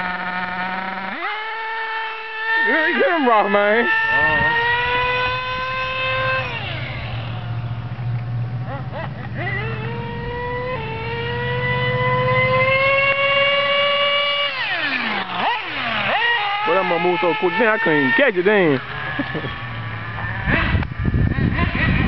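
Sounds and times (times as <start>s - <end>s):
remote-control car engine whining: 0.0s - 22.0s.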